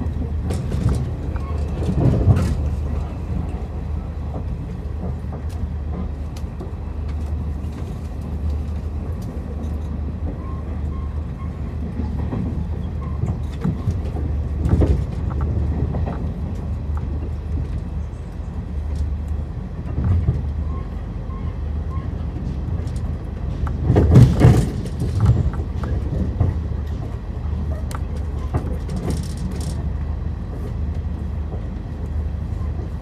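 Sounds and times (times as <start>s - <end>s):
train rumble inside carriage: 0.0s - 33.0s.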